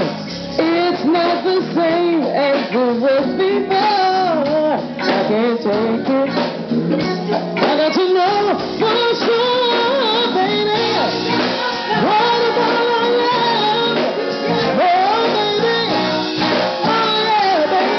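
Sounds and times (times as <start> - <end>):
band playing: 0.0 - 17.9
woman singing: 0.0 - 17.9.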